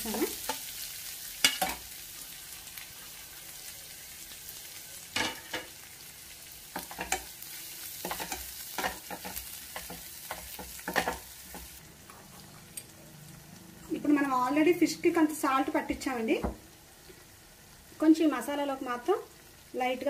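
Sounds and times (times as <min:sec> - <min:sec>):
spices sizzling in hot oil: 0:00.0 - 0:20.0.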